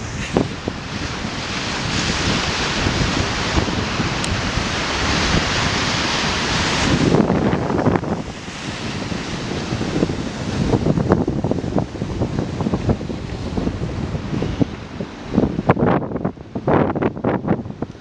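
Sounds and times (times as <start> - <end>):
surf breaking and washing in: 0.0 - 18.0
wind buffeting microphone: 0.0 - 18.0.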